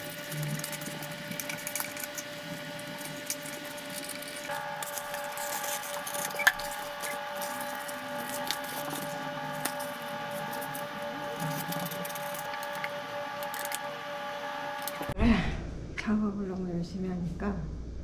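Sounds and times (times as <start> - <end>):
adhesive film crinkling and rubbing: 0.0 - 15.2.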